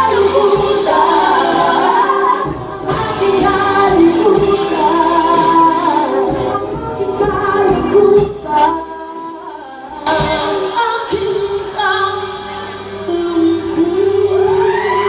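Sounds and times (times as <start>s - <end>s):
live band playing: 0.0s - 15.0s
women singing: 0.0s - 15.0s.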